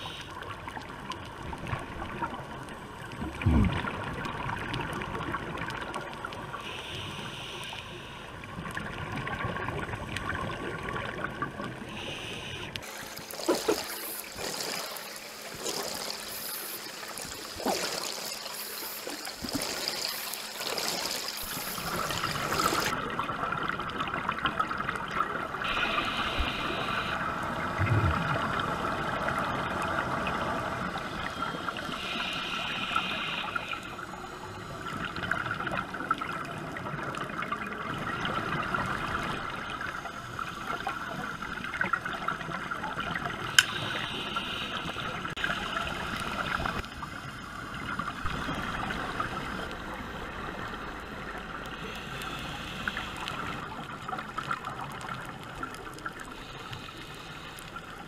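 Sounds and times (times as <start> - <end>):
scuba exhaust bubbles: 0.0 - 58.0
underwater rush and gurgle: 0.0 - 58.0.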